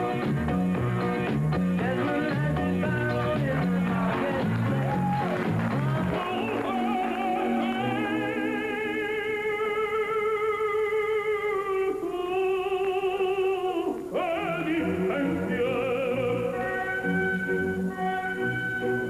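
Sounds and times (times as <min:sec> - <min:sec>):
operatic singing: 0:01.8 - 0:19.0.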